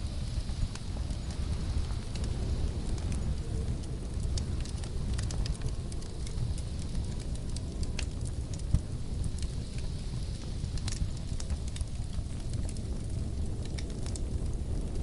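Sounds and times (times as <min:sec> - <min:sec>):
low rumble: 0:00.0 - 0:15.0
wood fire crackling: 0:00.0 - 0:15.0.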